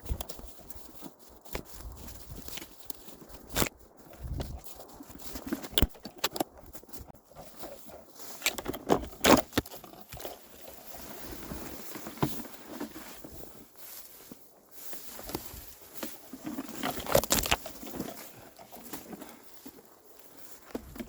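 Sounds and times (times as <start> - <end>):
footsteps through brush: 0.0 - 21.0
leaves rustling: 0.0 - 21.0
twigs cracking: 0.0 - 21.0.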